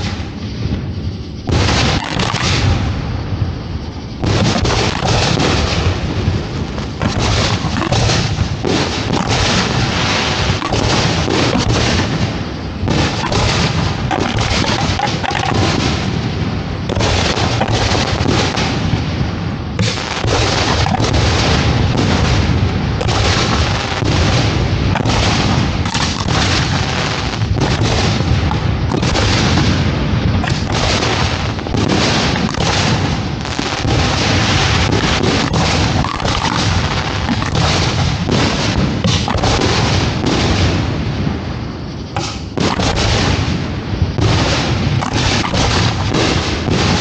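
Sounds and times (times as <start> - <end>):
fireworks launching and bursting: 0.0 - 47.0.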